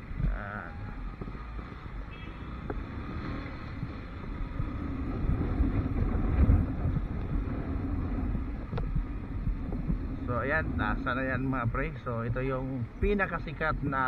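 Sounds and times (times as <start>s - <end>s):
motorcycle engine rumble: 0.0s - 14.0s
wind buffeting microphone: 0.0s - 14.0s.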